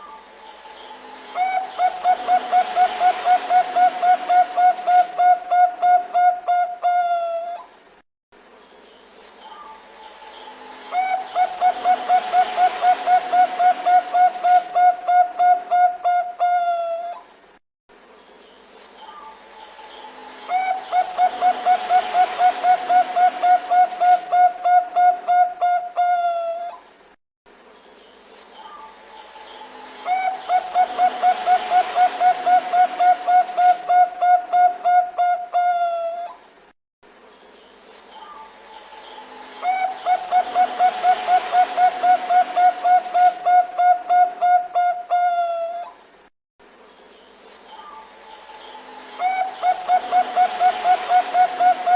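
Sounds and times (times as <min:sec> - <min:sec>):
dove calling: 0:00.0 - 0:07.7, 0:09.4 - 0:17.3, 0:19.0 - 0:26.8, 0:28.6 - 0:36.4, 0:38.2 - 0:46.0, 0:47.7 - 0:51.9.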